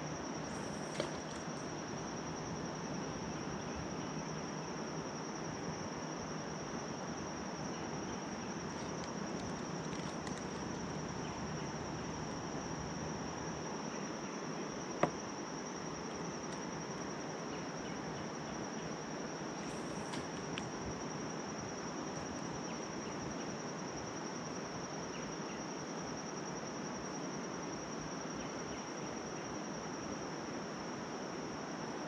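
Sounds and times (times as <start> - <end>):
background hiss: 0.0 - 32.0
insects chorus: 0.0 - 32.0.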